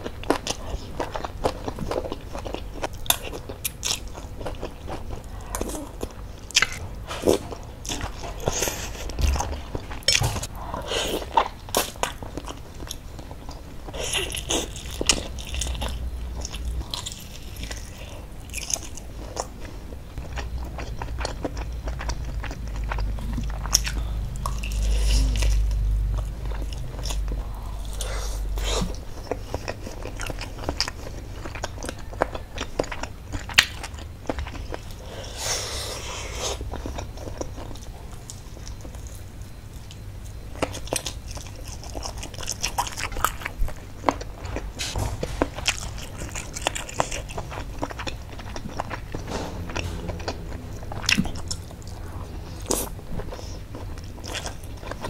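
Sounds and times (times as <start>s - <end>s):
person chewing meatballs: 0.0s - 55.0s.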